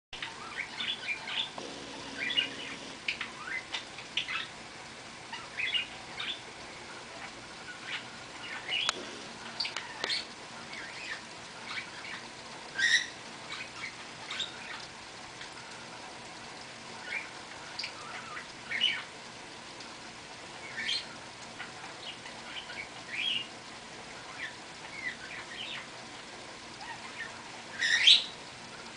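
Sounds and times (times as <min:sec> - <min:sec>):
birds chirping: 0:00.2 - 0:04.6, 0:05.2 - 0:19.3, 0:20.4 - 0:28.9
rain hiss: 0:01.2 - 0:28.9.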